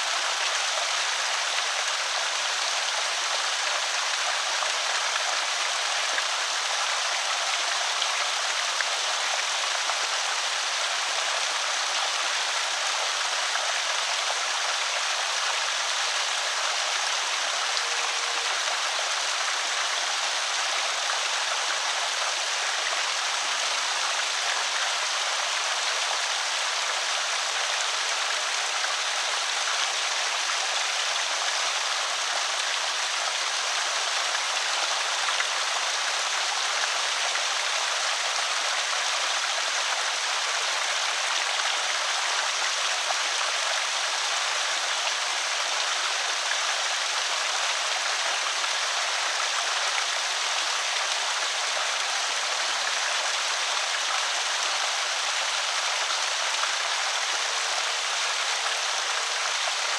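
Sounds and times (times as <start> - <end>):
water pouring over spillway: 0.0 - 59.9.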